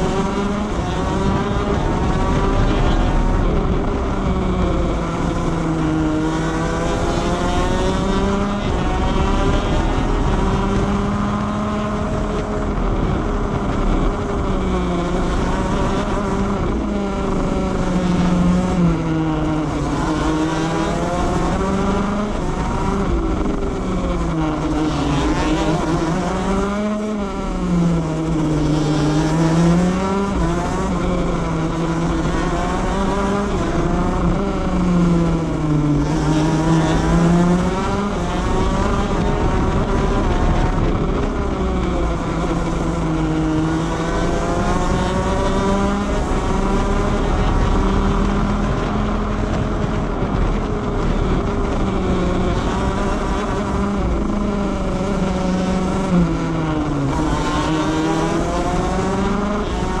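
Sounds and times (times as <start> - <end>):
kart engine racing: 0.0 - 60.0
wind and track rumble: 0.0 - 60.0.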